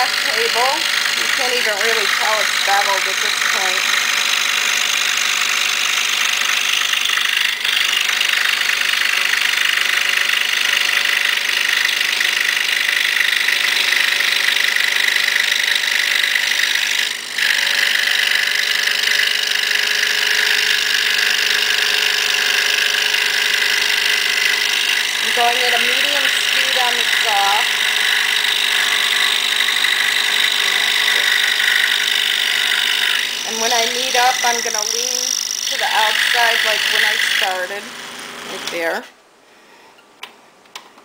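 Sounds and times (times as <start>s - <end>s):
scroll saw whirring: 0.0s - 40.1s.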